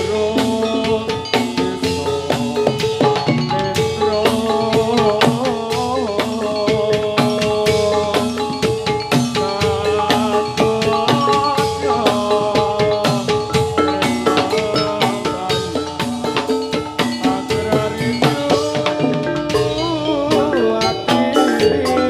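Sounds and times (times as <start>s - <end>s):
fast hand drumming: 0.0s - 22.0s
metal mallet instruments ringing: 0.0s - 22.0s.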